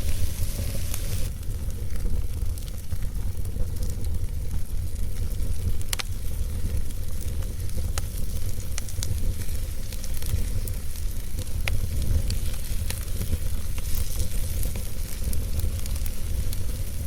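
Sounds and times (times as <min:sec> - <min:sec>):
campfire crackling and popping: 0:00.0 - 0:17.0
low rumble of fire: 0:00.0 - 0:17.0
soft hiss of fire: 0:00.0 - 0:17.0.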